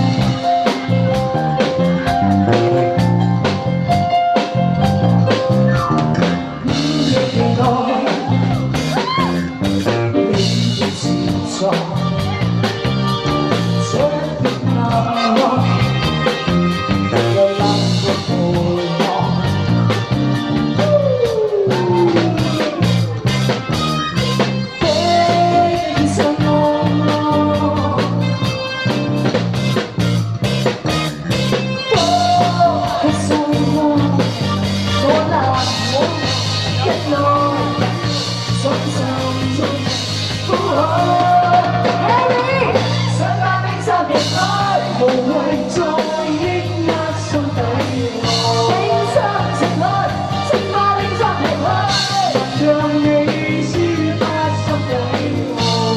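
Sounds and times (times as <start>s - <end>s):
pop-rock song with singing: 0.0s - 55.9s.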